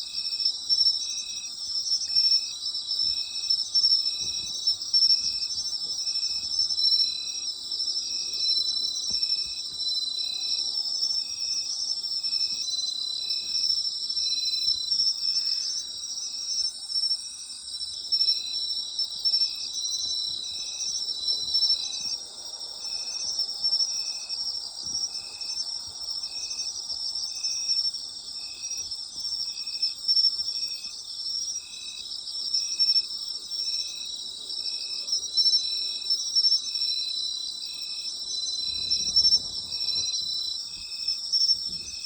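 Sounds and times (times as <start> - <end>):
insect chirping steadily: 0.0 - 42.0
insects trilling: 0.1 - 42.0.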